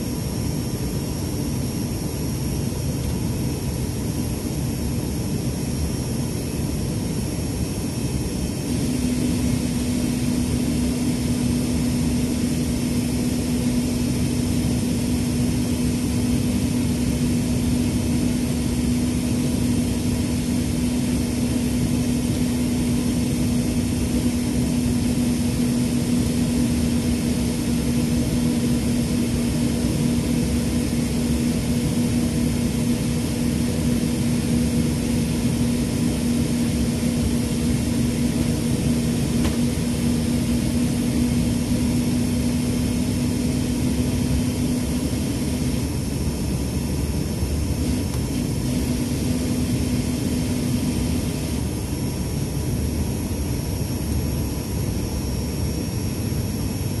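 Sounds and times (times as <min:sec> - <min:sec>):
low hum: 0:00.0 - 0:57.0
turboprop cabin drone: 0:00.0 - 0:57.0.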